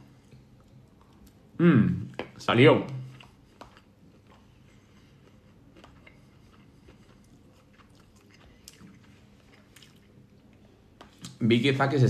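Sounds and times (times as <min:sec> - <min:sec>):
chewing food: 0:00.0 - 0:11.4.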